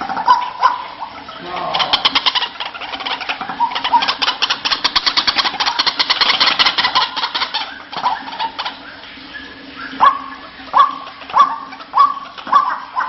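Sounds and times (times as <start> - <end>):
waterhen calling harsh notes: 0.0 - 13.0.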